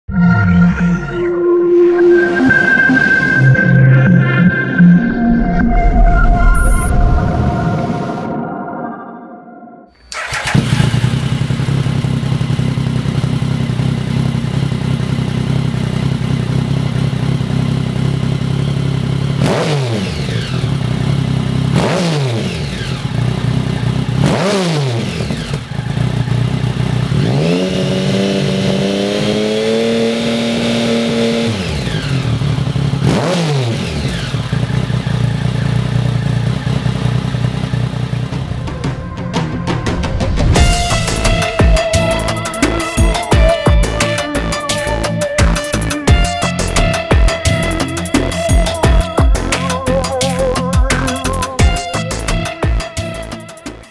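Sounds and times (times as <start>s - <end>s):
motorcycle engine idling and revving: 10.0s - 53.9s.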